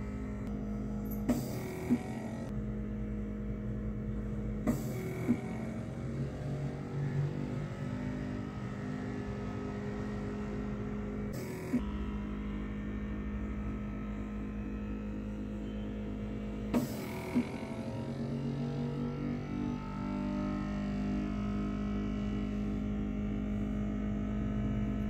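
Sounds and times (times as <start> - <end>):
instrumental music with drone: 0.0 - 25.0.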